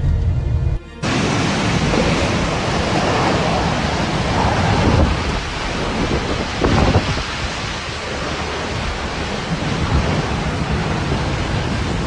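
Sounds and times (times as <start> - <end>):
low rumble: 0.0 - 12.0
strong wind blowing: 0.0 - 12.0
wind buffeting microphone: 1.0 - 12.0.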